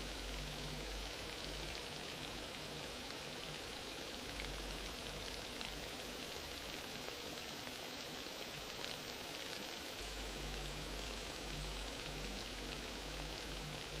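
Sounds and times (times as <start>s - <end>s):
low rumble of flame: 0.0s - 8.8s, 9.9s - 14.0s
wood fire crackling: 0.0s - 14.0s.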